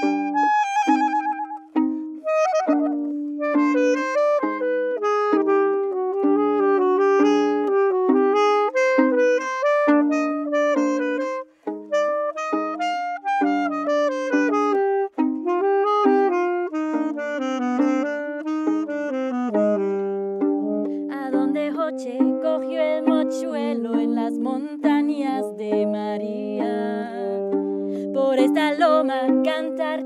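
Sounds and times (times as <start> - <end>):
alto saxophone solo: 0.0 - 30.0.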